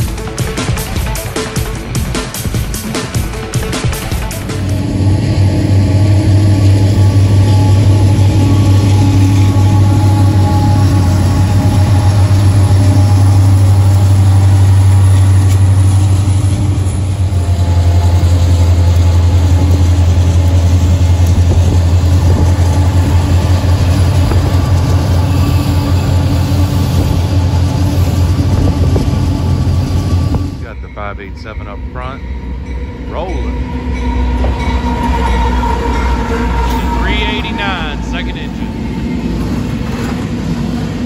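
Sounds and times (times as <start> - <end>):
diesel locomotive drone: 0.0 - 41.0
freight cars rolling on rails: 0.0 - 41.0.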